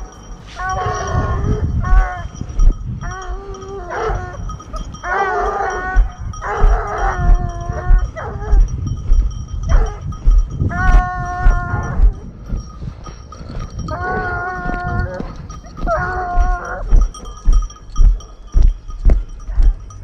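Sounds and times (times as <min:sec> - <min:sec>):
heavy footsteps on stony path: 0:00.0 - 0:03.0, 0:04.6 - 0:20.0
hounds baying: 0:00.0 - 0:20.0.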